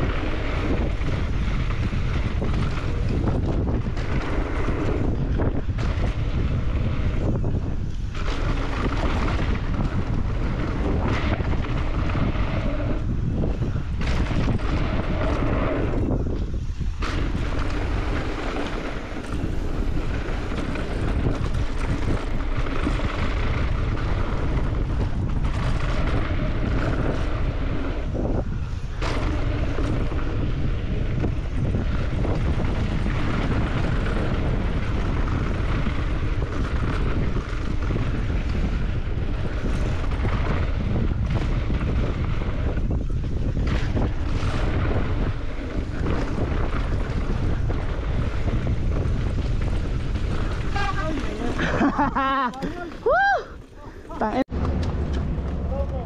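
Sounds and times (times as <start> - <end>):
mountain bike tyre roar and rattle: 0.0 - 56.0
wind on microphone: 0.0 - 56.0.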